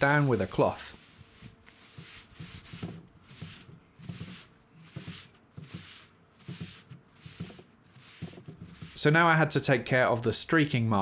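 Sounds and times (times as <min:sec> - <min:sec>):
cloth rubbing on wooden table: 0:00.0 - 0:09.1.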